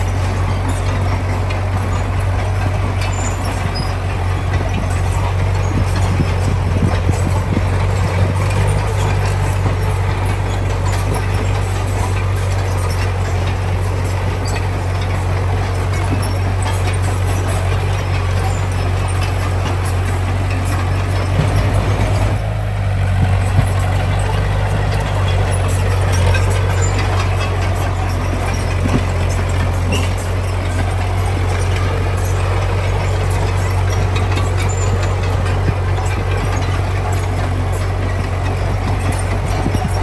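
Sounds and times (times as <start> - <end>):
diesel machinery engine hum: 0.0 - 40.0
knocks and rattles: 0.0 - 40.0.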